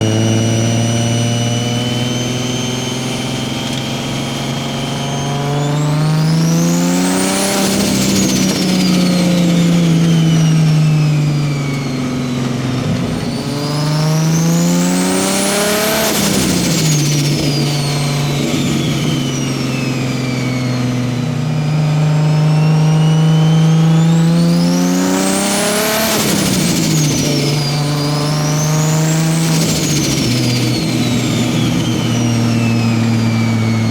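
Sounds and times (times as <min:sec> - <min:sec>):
car engine revving: 0:00.0 - 0:33.9
turbo whine: 0:00.0 - 0:33.9.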